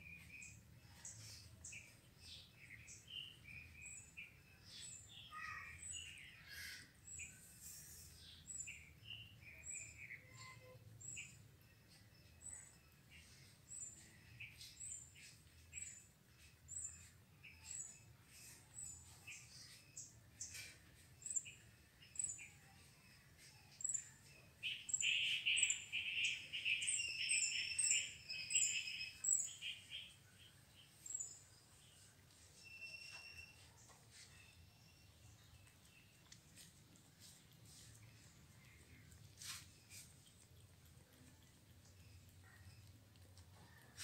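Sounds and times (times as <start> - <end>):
small bird high chirp: 0.0 - 44.0.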